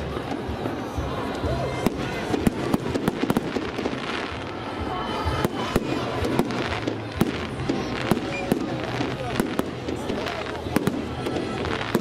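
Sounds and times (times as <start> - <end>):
steady background din: 0.0 - 12.0.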